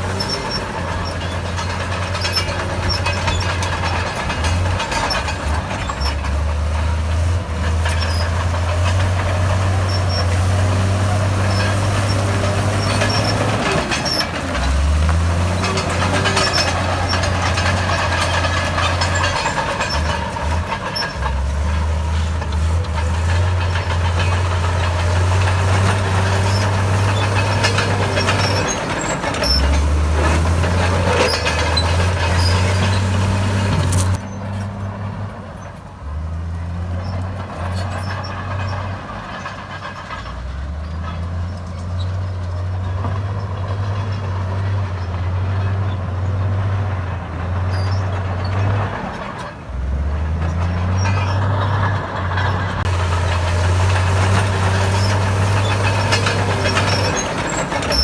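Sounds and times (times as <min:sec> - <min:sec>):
bulldozer diesel engine drone: 0:00.0 - 0:58.0
clatter of tracks and machinery: 0:00.0 - 0:58.0.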